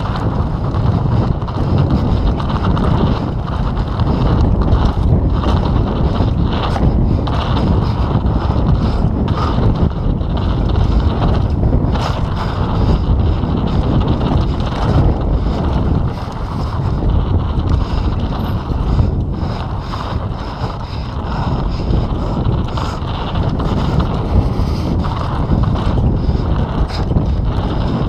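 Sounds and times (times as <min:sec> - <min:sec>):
bike clattering over bumps: 0:00.0 - 0:28.0
tyres rumbling on dirt: 0:00.0 - 0:28.0
wind buffeting microphone: 0:00.0 - 0:28.0.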